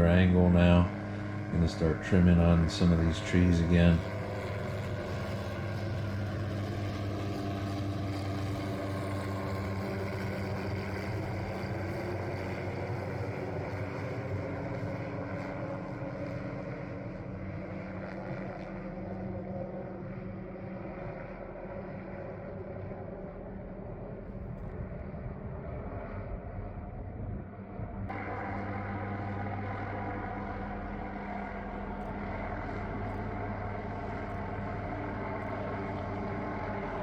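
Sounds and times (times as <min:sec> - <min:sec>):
helicopter droning: 0:00.0 - 0:37.0.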